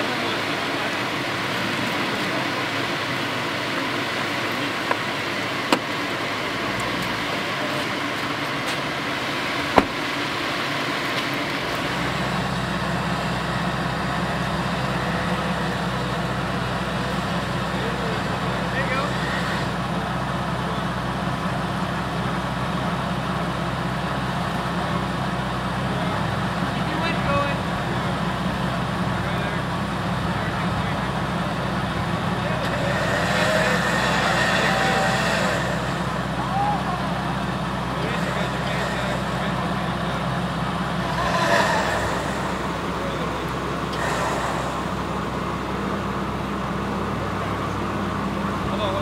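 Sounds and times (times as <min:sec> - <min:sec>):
vehicle engine running at low revs: 0:00.0 - 0:49.0.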